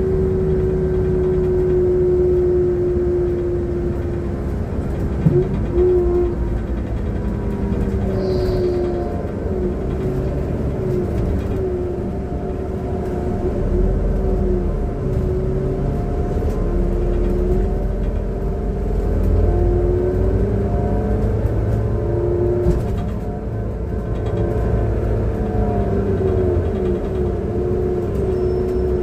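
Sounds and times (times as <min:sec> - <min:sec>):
bus engine rumble: 0:00.0 - 0:29.0
engine whine: 0:00.0 - 0:29.0.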